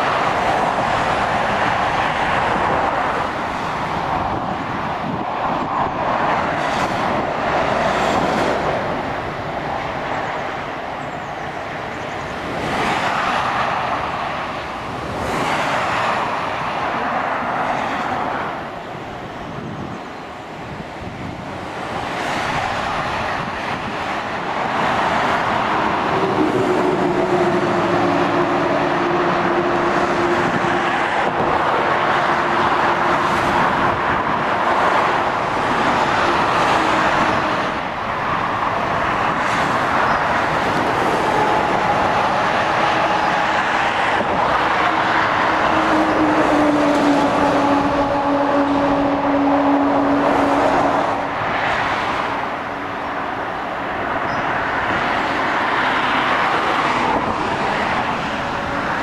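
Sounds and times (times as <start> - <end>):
motorway tyre noise: 0.0 - 59.0
vehicle engines passing: 0.0 - 59.0.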